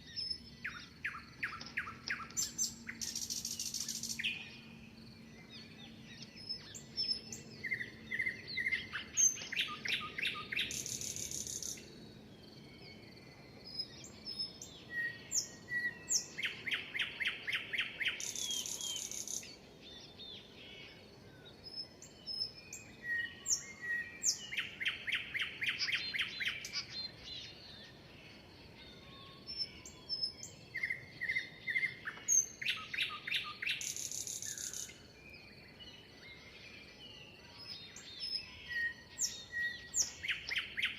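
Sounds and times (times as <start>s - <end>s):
songbird singing with buzzy trill: 0.0s - 40.9s.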